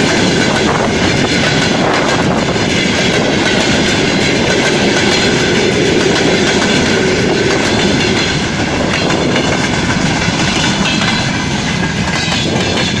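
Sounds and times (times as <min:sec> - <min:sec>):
railway cars rolling past: 0:00.0 - 0:13.0
wheels clacking over rail joints: 0:00.0 - 0:13.0.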